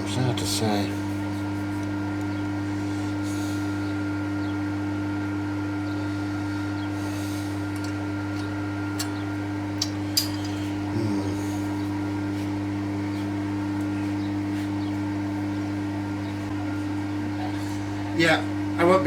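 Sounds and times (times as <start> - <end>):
electrical hum with whine: 0.0 - 19.0.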